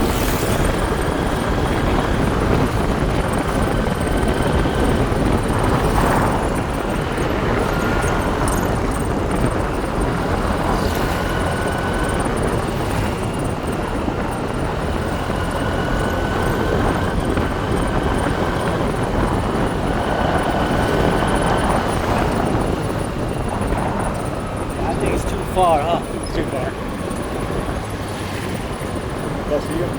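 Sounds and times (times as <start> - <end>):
motorbike engine running: 0.0 - 29.9
wind rush on microphone: 0.0 - 29.9.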